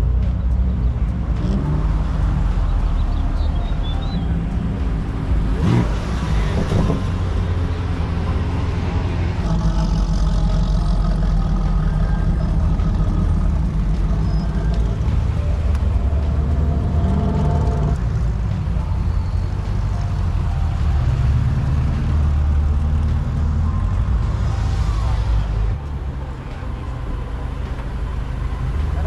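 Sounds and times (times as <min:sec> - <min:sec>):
car engine exhaust rumble: 0:00.0 - 0:29.0.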